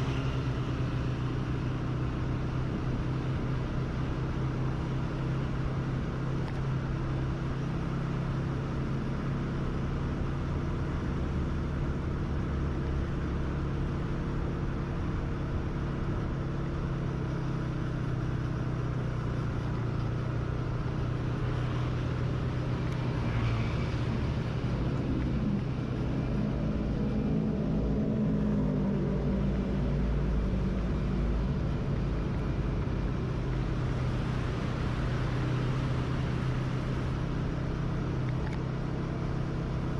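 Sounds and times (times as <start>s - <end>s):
vehicle engine humming: 0.0s - 39.9s
wind and road noise: 0.0s - 39.9s.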